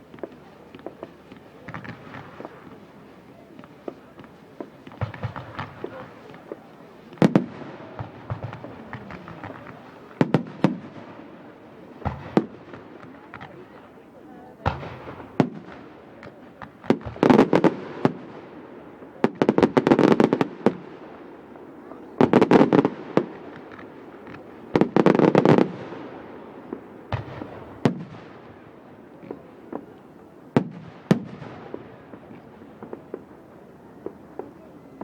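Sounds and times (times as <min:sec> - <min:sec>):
fireworks crackling bangs: 0:00.0 - 0:35.0.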